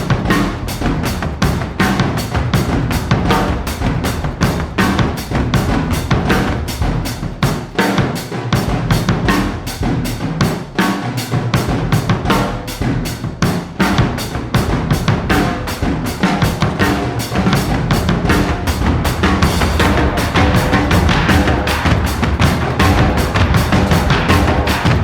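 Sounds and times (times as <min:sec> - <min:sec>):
music with fast drum beat: 0:00.0 - 0:25.0.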